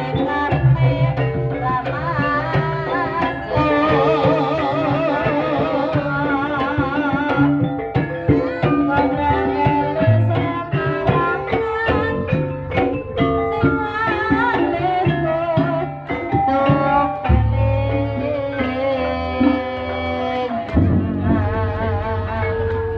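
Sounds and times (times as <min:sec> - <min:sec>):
hand drum: 0:00.0 - 0:22.9
wavering melody line: 0:00.0 - 0:22.9.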